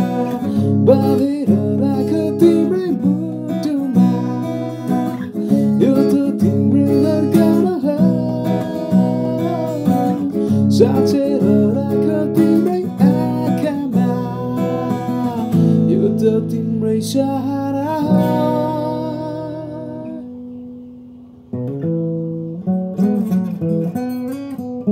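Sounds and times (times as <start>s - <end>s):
man singing: 0.0s - 20.4s
acoustic guitar strumming chords: 0.0s - 24.9s.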